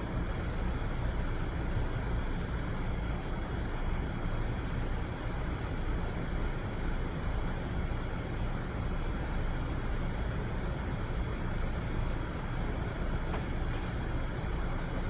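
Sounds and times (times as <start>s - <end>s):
steady rushing noise with low rumble: 0.0s - 15.0s.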